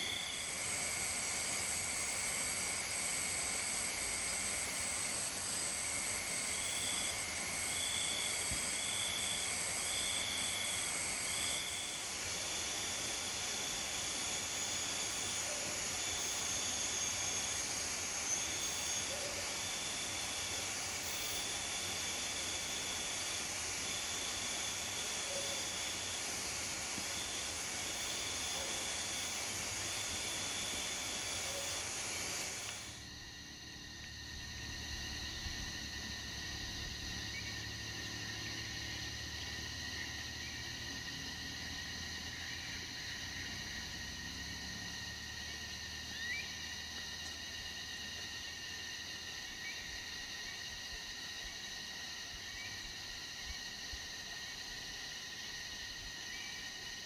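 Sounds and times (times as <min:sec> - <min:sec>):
constant hiss: 0:00.0 - 0:57.0
high-pitched insect trills: 0:00.0 - 0:57.0
pulsed insect call: 0:00.0 - 0:57.0.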